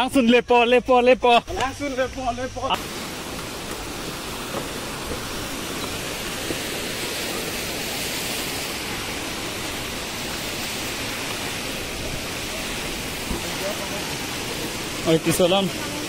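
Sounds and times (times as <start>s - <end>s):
waterfall rushing: 2.6s - 16.0s.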